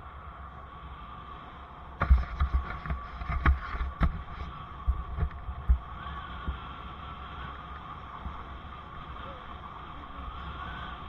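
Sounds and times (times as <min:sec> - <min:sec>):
wind and riding noise: 0:00.0 - 0:11.0.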